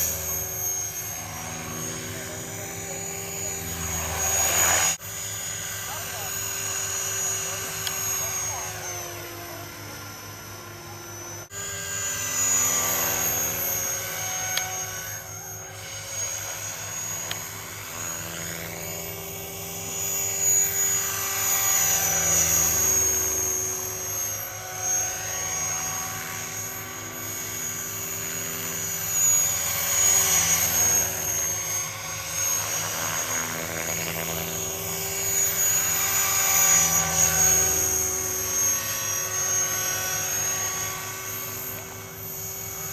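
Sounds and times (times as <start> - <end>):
model helicopter motor whine: 0.0 - 42.9.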